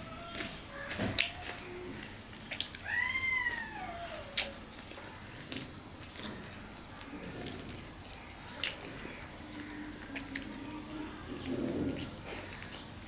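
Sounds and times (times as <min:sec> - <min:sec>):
wet chewing: 0:00.3 - 0:13.0.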